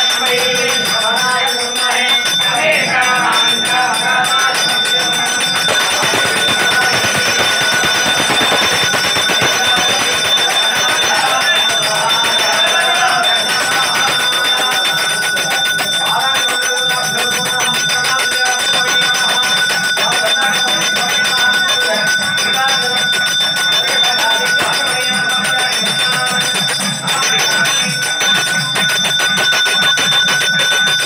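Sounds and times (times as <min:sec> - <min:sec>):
temple bell ringing rapidly: 0:00.0 - 0:31.0
voices: 0:00.0 - 0:31.0.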